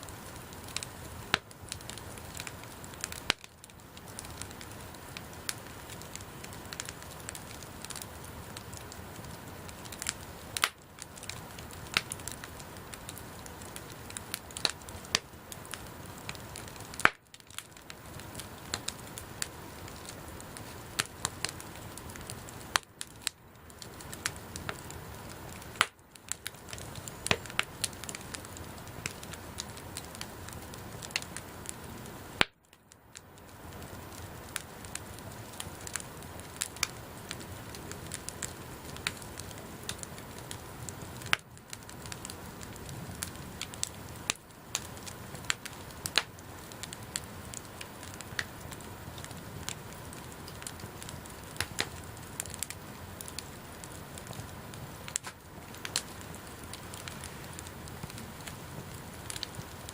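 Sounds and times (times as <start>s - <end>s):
fire hissing: 0.0s - 59.9s
wood fire crackling and popping: 0.0s - 59.9s.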